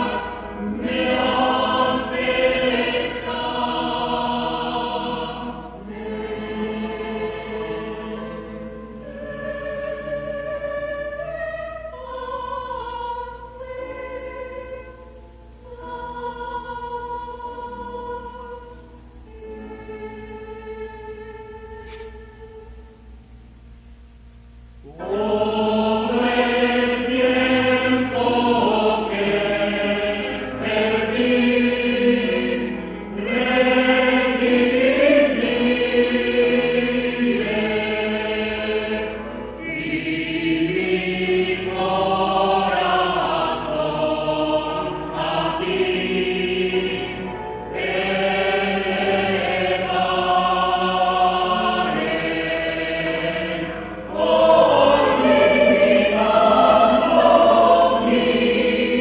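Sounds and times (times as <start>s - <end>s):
church choir singing: 0.0s - 23.2s, 24.8s - 59.0s
low recording hum: 0.0s - 59.0s.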